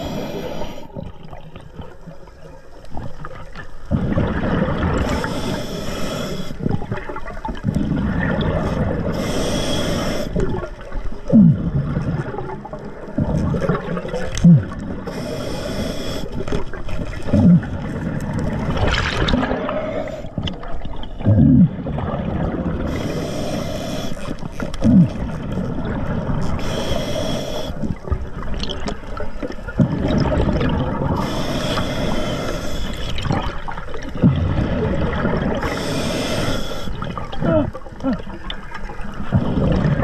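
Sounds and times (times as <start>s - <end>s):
exhaled bubbles gurgling: 0.0s - 40.0s.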